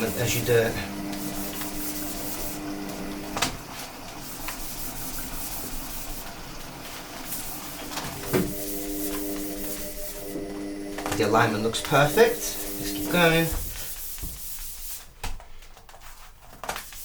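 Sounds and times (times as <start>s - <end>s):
paper towel rubbing on plastic sheet: 0.0s - 10.4s, 11.0s - 15.2s, 16.0s - 17.0s.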